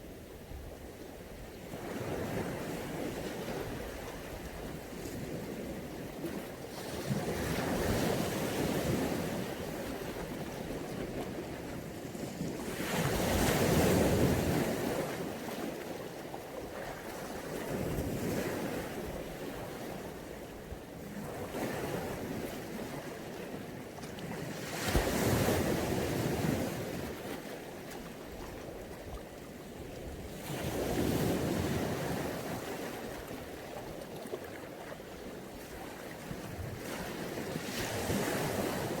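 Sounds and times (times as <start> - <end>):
sea waves breaking on shore: 1.3 - 39.0.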